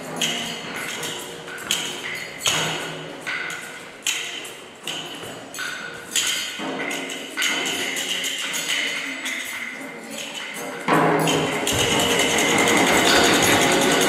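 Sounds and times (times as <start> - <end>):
hand percussion strikes ringing: 0.0 - 14.0.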